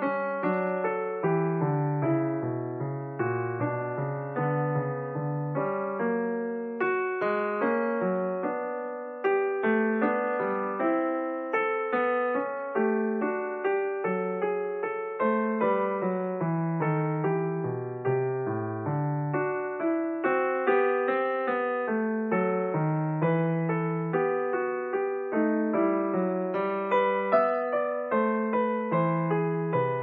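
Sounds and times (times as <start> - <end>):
solo piano notes: 0.0 - 30.0.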